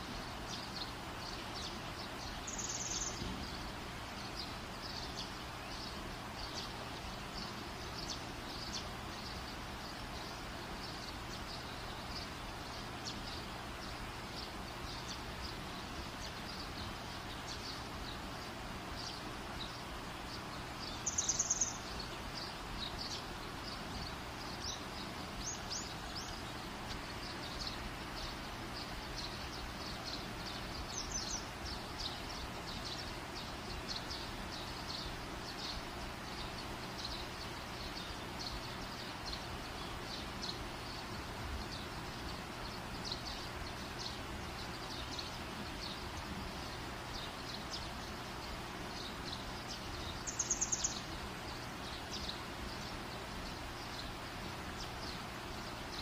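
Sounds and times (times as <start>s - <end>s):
small birds chirping: 0.0s - 56.0s
steady hum and hiss: 0.0s - 56.0s.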